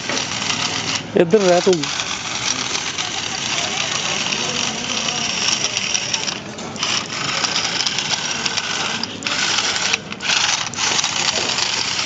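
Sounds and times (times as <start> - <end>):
robot gear motors whirring: 0.0 - 12.0.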